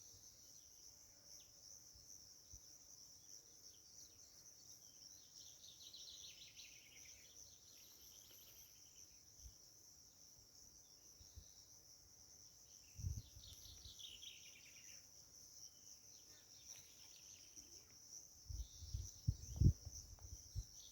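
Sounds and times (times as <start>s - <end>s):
crickets chirping: 0.0s - 20.9s.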